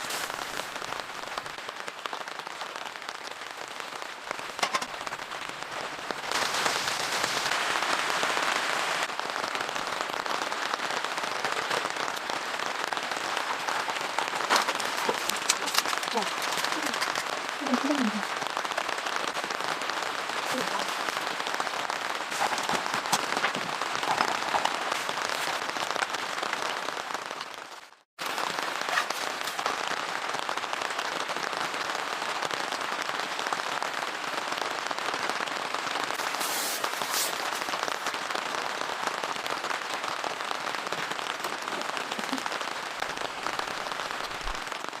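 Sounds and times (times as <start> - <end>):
heavy rain pattering: 0.0 - 45.0.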